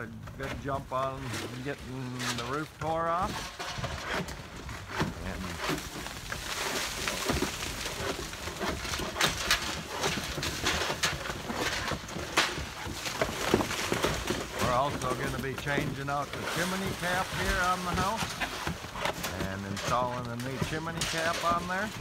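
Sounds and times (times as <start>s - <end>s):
tools scraping on roof: 0.0s - 22.0s.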